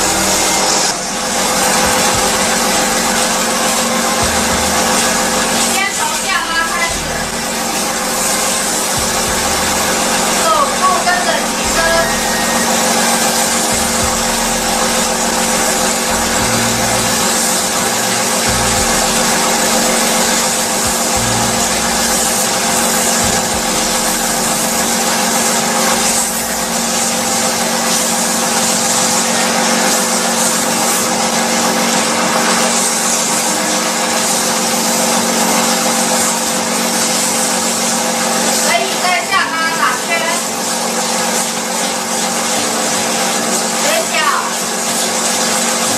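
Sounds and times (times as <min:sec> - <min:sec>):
pump humming and hissing: 0:00.0 - 0:45.9.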